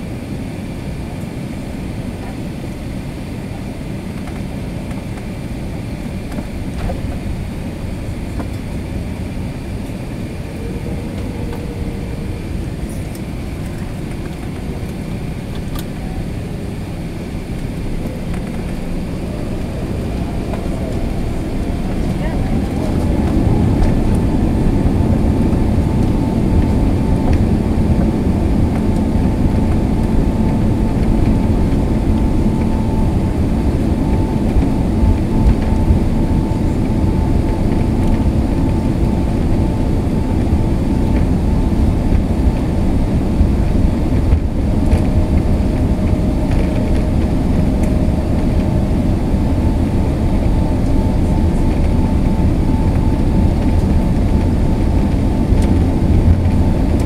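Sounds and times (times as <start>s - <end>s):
jet engines rumbling and whining: 0.0s - 57.0s
lower whine: 0.0s - 57.0s.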